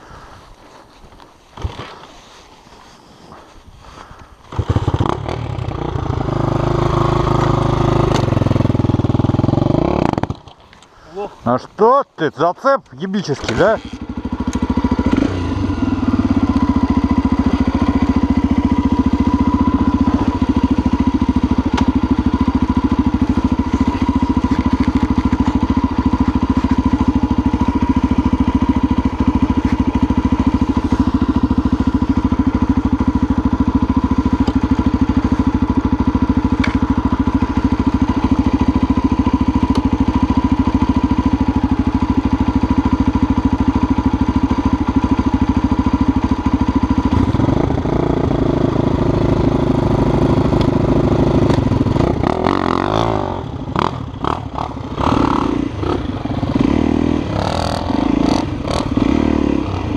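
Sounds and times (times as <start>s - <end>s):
motorcycle engine idling: 3.9s - 11.7s, 13.2s - 59.9s.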